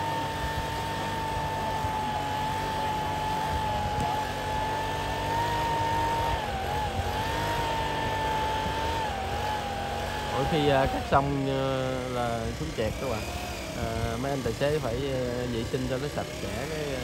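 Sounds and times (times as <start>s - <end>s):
leaf blower running: 0.0s - 17.0s.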